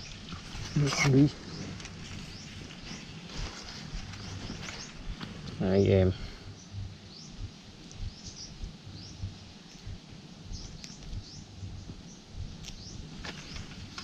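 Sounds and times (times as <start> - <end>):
low rumble: 0.0 - 14.0
small birds chirping: 0.0 - 14.0.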